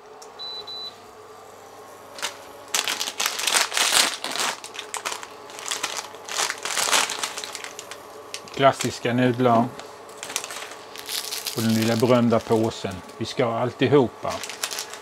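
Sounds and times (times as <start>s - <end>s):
plastic packet crinkling: 2.1s - 13.4s, 14.2s - 15.0s.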